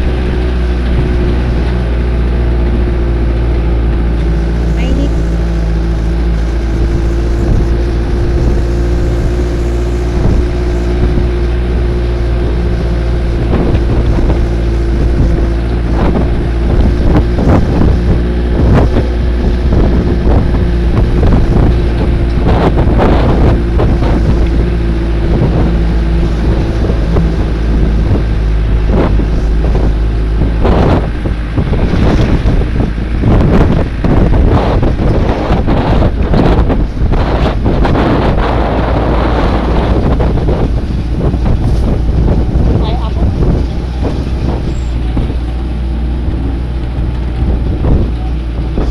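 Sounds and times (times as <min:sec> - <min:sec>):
vehicle engine running: 0:00.0 - 0:48.9
wind buffeting microphone: 0:00.0 - 0:48.9.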